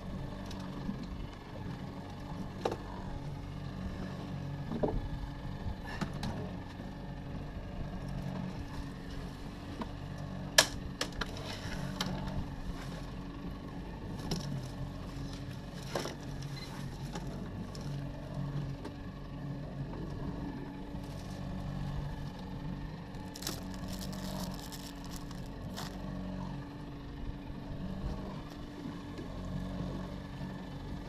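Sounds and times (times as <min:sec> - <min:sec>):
outboard motor running: 0:00.0 - 0:31.0
water around a hull: 0:00.0 - 0:31.0.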